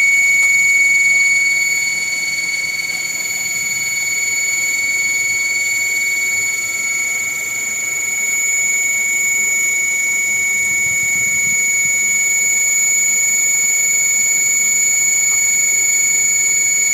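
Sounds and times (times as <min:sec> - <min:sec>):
air conditioner whining: 0:00.0 - 0:16.9.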